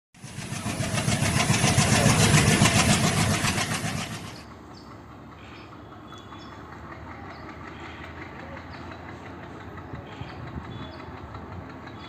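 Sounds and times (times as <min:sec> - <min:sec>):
pulsing mechanical engine sound: 0:00.2 - 0:12.0.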